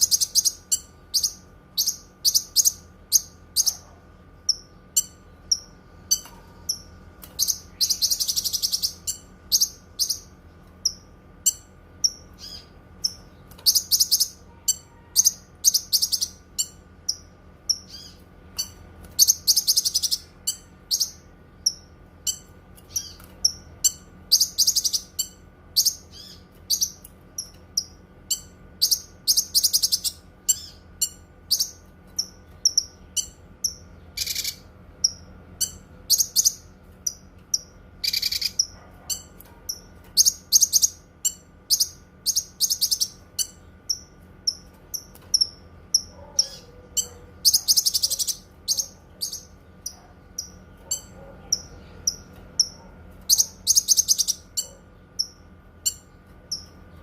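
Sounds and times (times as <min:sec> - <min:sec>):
bird rapid trill: 0:00.0 - 0:56.8
bird chirping: 0:00.0 - 0:57.0
faint steady hum: 0:00.0 - 0:57.0.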